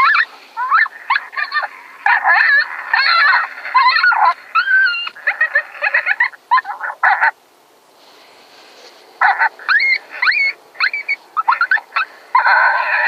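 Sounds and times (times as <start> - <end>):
animal yipping and squealing: 0.0 - 7.4, 9.2 - 13.0.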